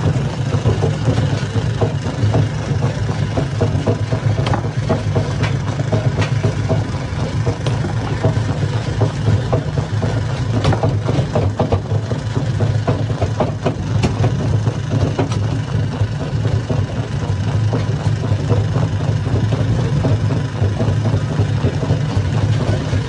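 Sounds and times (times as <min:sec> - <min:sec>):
stone crusher humming: 0:00.0 - 0:23.0.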